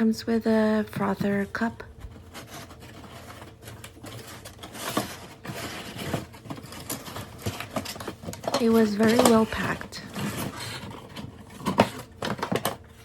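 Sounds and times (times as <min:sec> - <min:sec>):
packaging rustling: 0:02.0 - 0:13.0.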